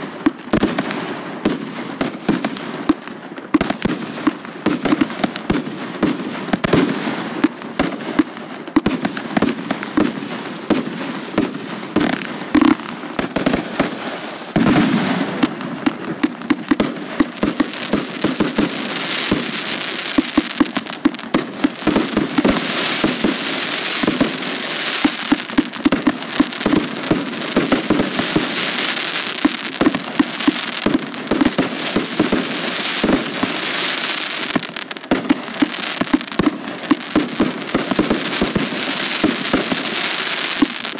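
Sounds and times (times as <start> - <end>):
fireworks bangs and pops: 0.0 - 40.9.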